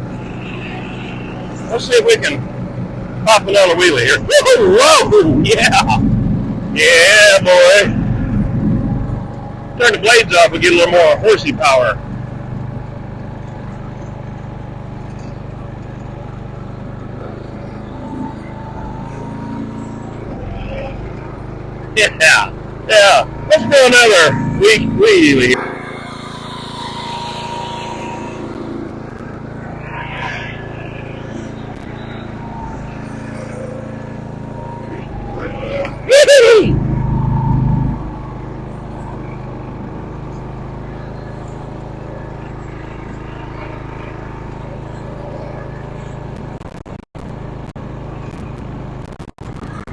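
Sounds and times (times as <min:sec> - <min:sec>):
riding mower engine running: 0:00.0 - 0:49.9.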